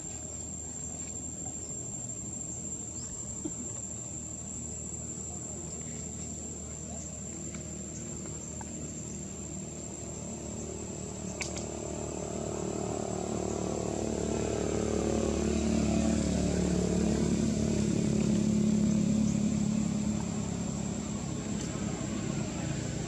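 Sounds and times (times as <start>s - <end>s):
high-pitched insect drone: 0.0s - 23.0s
vehicle engine approaching: 4.3s - 23.0s.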